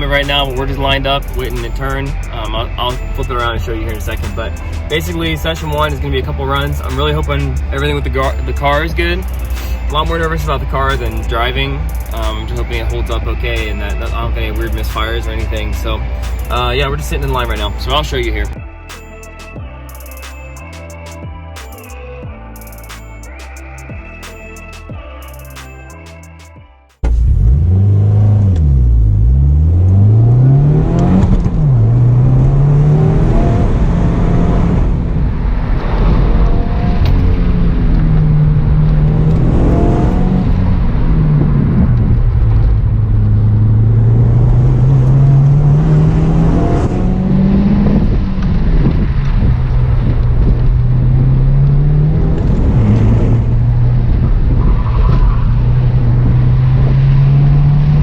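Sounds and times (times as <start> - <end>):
car engine revving: 0.0 - 21.8, 27.0 - 58.0.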